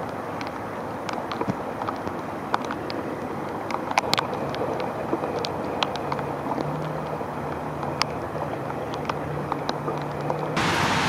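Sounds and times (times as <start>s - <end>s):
raindrops ticking on plastic: 0.0s - 10.9s
water rushing over a drop: 0.0s - 11.0s.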